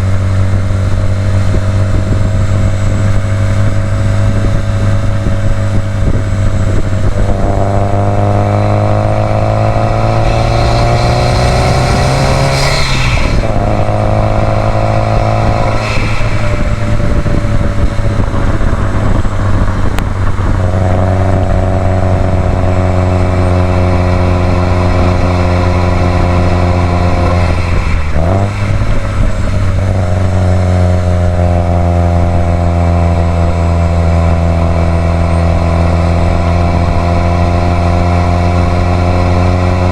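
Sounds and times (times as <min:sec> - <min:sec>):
car engine pulling: 0:00.0 - 0:39.9.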